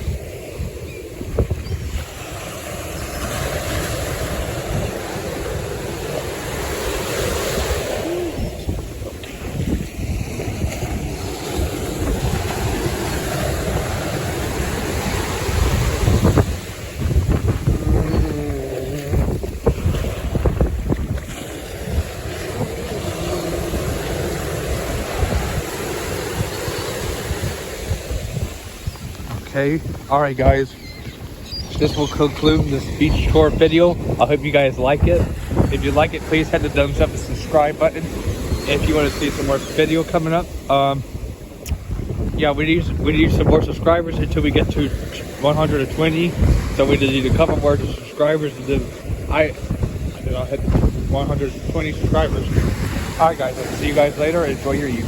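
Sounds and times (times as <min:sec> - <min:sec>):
ocean surf washing in: 0:00.0 - 0:55.0
wind buffeting microphone: 0:00.0 - 0:55.0.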